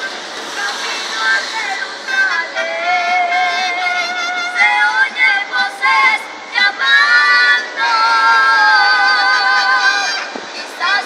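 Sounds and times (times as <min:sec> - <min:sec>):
person singing with vibrato: 0:00.0 - 0:11.0.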